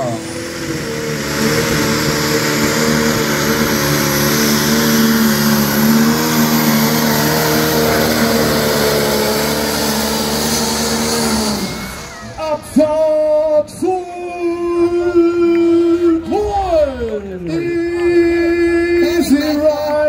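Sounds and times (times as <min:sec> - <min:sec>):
tractor engine at full throttle: 0:00.0 - 0:20.0.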